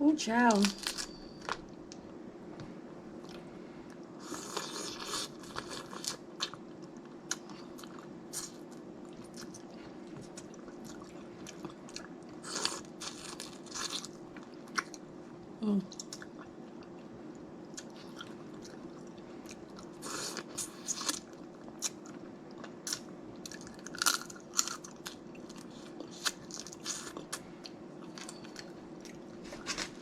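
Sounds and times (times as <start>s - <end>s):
person chewing: 3.2s - 15.0s, 15.9s - 30.0s.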